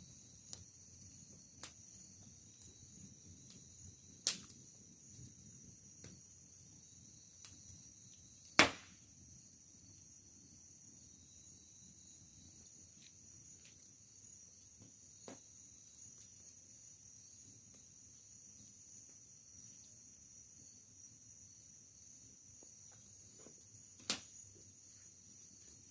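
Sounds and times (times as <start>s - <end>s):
crickets chirring: 0.0s - 25.9s.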